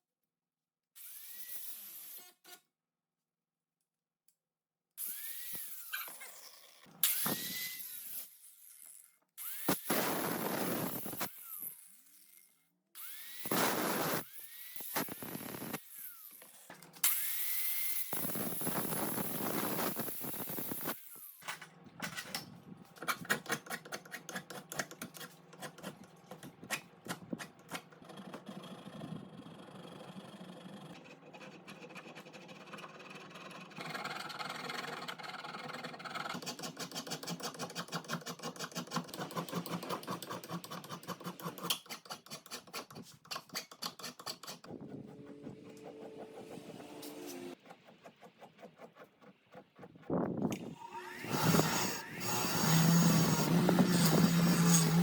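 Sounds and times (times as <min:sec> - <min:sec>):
handheld power tool spinning: 0:01.0 - 0:02.6, 0:05.0 - 0:55.0.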